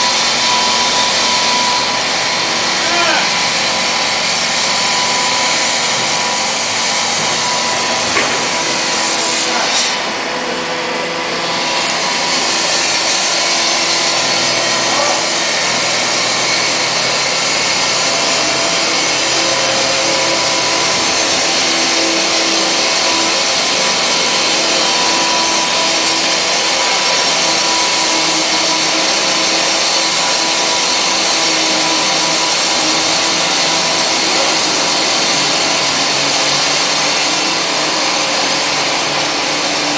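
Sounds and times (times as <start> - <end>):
machine running loudly with hiss: 0.0 - 39.9.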